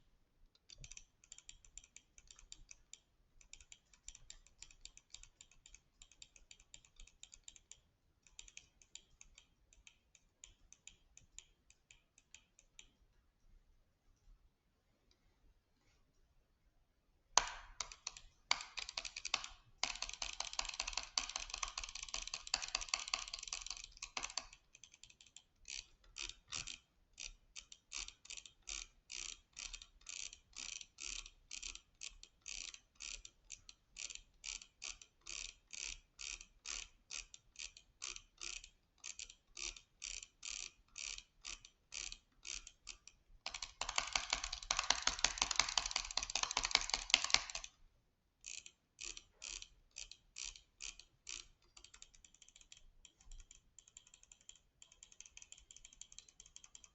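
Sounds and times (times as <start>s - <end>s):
small mechanical clicking: 0.5s - 13.0s, 17.4s - 47.8s, 48.4s - 56.9s.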